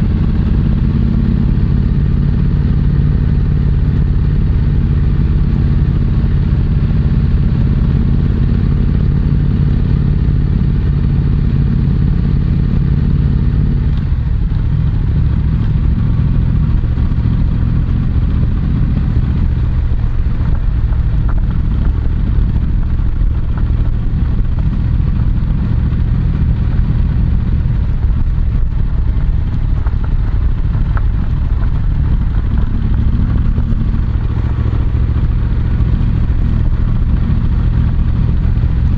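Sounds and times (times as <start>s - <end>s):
motorcycle exhaust note: 0.0s - 38.9s.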